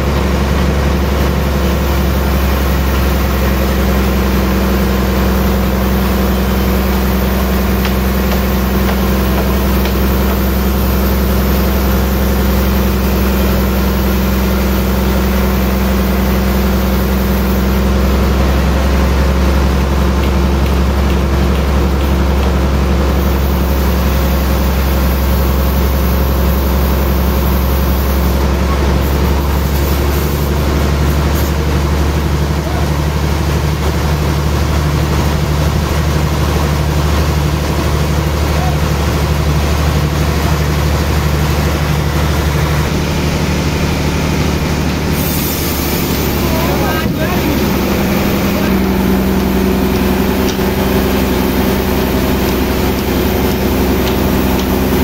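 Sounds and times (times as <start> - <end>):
band sawmill machine drone: 0.0 - 55.0.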